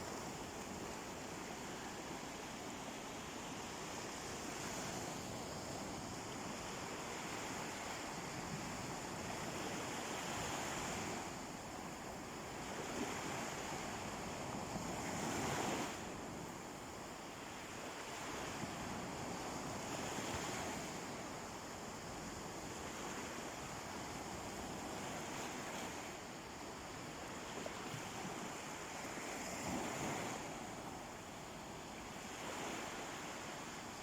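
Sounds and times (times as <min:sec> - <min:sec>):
waves washing onto beach: 0:00.0 - 0:34.0.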